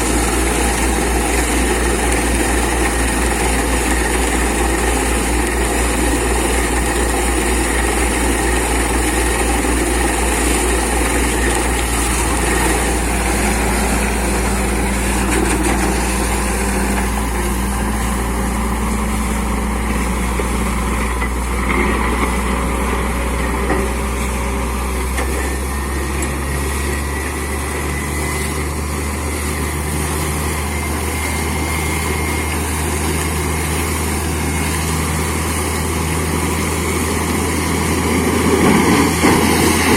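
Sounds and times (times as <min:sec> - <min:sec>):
air compressor running: 0:00.0 - 0:39.9
drilling rig running: 0:00.0 - 0:39.9.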